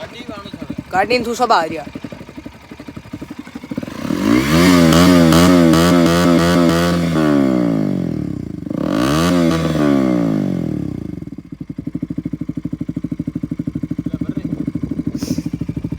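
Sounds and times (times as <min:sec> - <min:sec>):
motorcycle engine revving and idling: 0:00.0 - 0:15.9.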